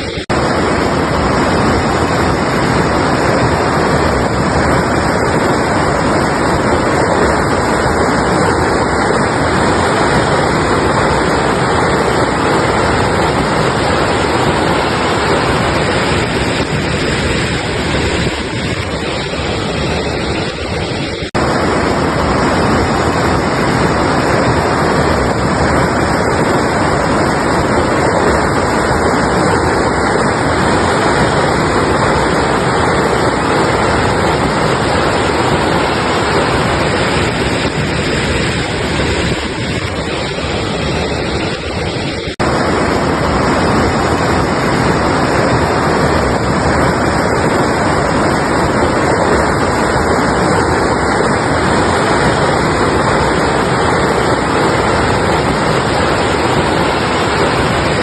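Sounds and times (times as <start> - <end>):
river water roaring: 0.0 - 58.0.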